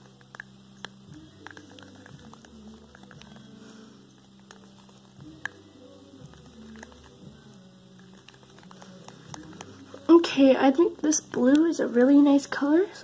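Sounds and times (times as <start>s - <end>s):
spoon stirring paint squishing: 0.0s - 11.8s
low steady hum: 0.0s - 13.0s.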